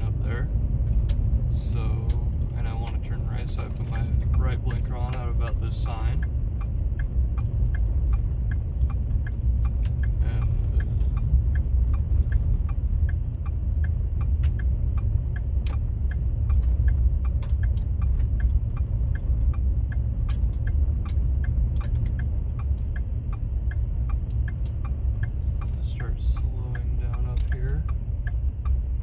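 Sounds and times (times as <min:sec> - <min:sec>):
car engine: 0:00.0 - 0:29.0
car turn signal ticking: 0:00.0 - 0:29.0
sharp clicks: 0:00.4 - 0:29.0.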